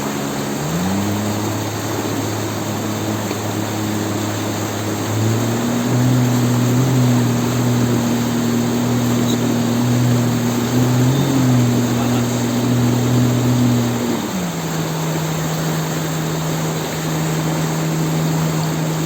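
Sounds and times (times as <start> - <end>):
loud rushing water jet: 0.0 - 19.0
outboard motor running: 0.0 - 19.0.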